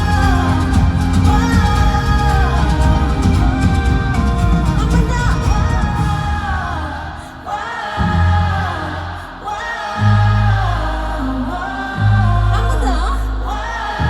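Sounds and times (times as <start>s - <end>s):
heavy bass: 0.0s - 14.0s
live pop band music: 0.0s - 14.0s
woman singing: 0.0s - 14.0s.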